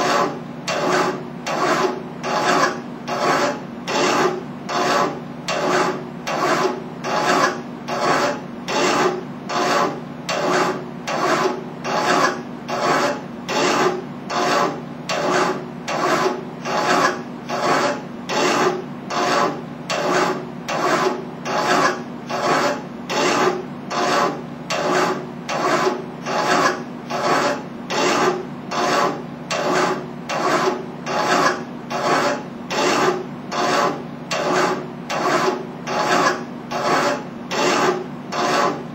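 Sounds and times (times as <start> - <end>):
hand file rasping on metal: 0.0 - 38.8.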